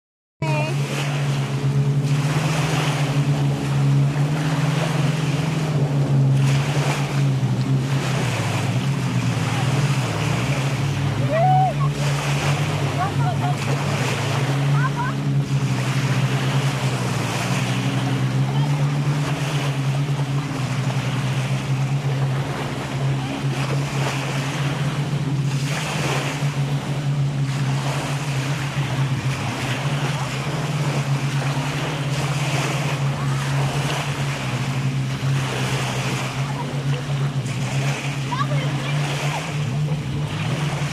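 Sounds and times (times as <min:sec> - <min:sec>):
low engine drone: 0:00.4 - 0:40.9
low motor hum: 0:00.4 - 0:40.9
waves washing onto sand: 0:00.4 - 0:40.9.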